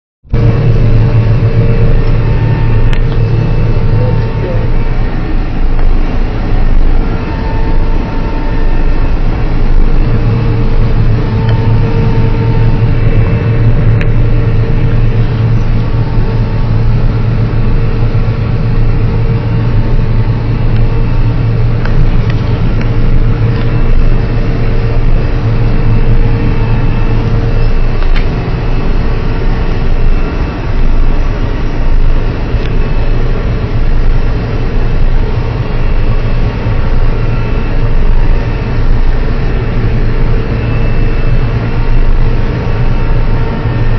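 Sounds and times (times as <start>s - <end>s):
combine harvester droning: 0.2s - 43.9s.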